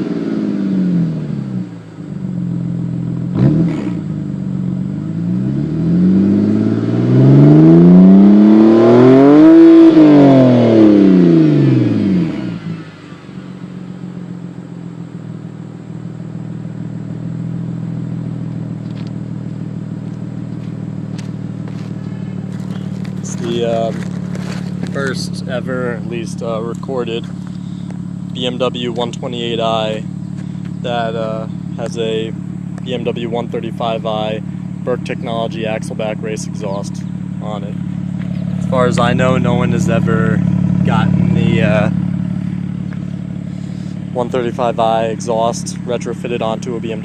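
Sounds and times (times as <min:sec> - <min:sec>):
car engine revving: 0:00.0 - 0:47.0
exhaust crack: 0:00.0 - 0:47.0.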